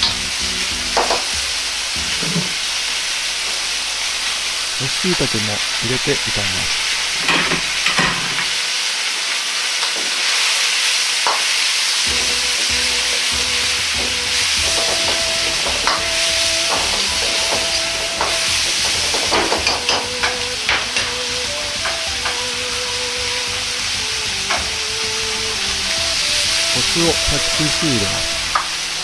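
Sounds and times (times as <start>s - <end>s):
food sizzling in hot oil: 0.0s - 6.0s, 6.6s - 29.0s.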